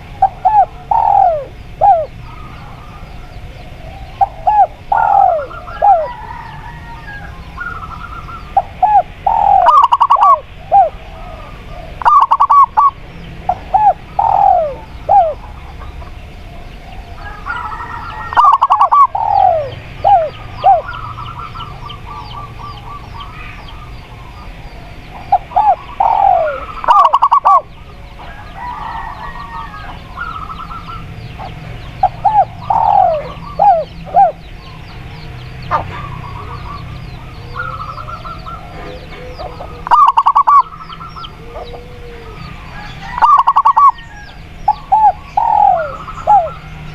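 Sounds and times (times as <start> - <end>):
birds chirping: 0.0 - 46.9
doves cooing: 0.0 - 46.9.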